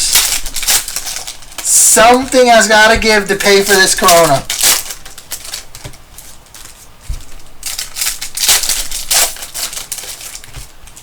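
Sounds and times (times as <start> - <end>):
foil wrappers crinkling and tearing: 0.0 - 11.0.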